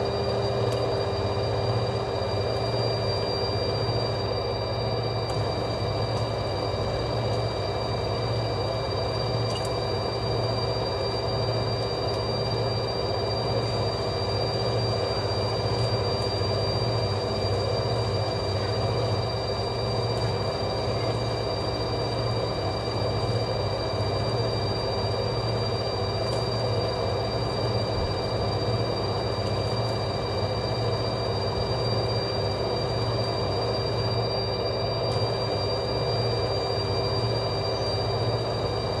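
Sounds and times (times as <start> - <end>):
washing machine spinning: 0.0 - 39.0.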